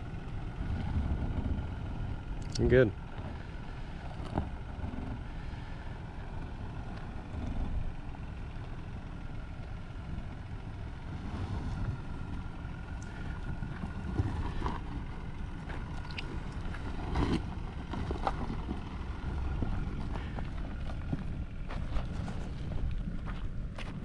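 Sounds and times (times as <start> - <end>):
wind rumbling on microphone: 0.0 - 9.0, 10.2 - 24.0
car engine running low: 0.0 - 24.0.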